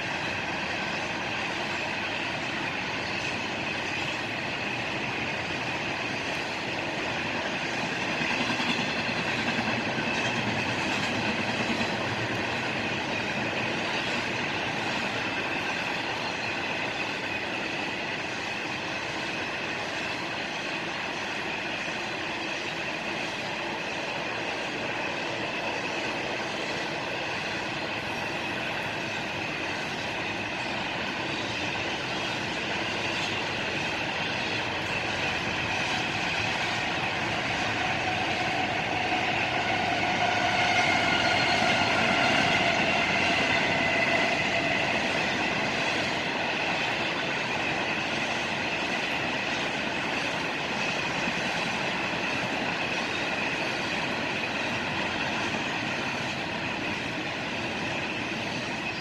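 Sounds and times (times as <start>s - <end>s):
train wheels rolling on rail: 0.0s - 59.0s.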